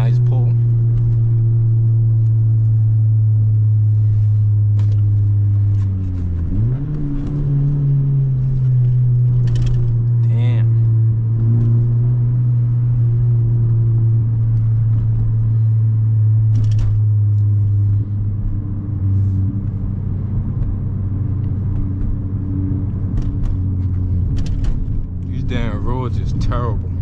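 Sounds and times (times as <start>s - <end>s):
car engine and road noise in cabin: 0.0s - 27.0s.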